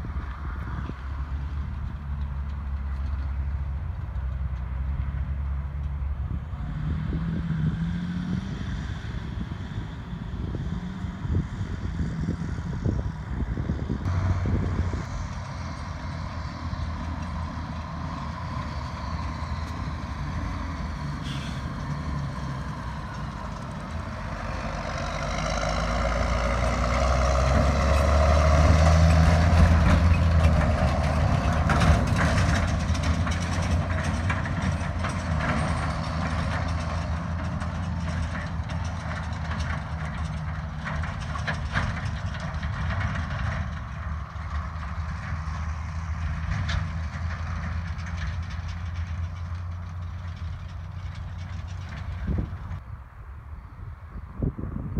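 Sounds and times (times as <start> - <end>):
diesel farm machinery running: 0.0 - 54.9.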